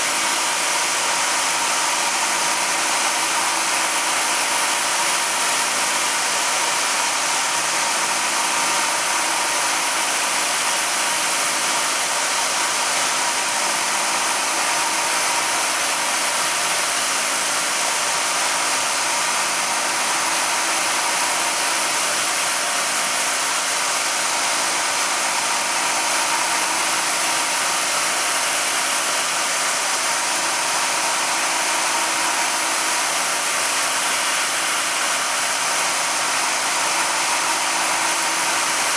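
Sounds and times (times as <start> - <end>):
motor running with hiss and hum: 0.0 - 38.9.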